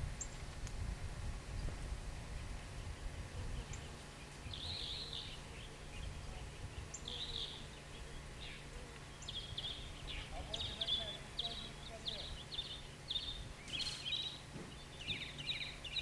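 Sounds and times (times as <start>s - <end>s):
steady low rumble: 0.0s - 13.7s
bird chirping: 2.4s - 16.0s.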